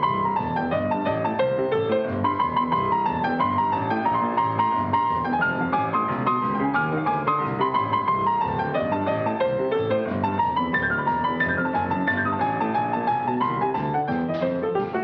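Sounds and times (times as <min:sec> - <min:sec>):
fast grand piano playing: 0:00.0 - 0:15.0.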